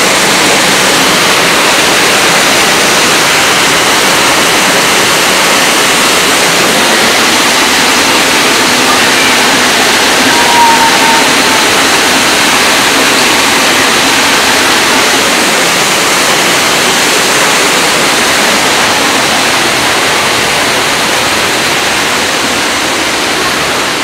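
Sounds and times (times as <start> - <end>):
rush of falling water: 0.0 - 24.0.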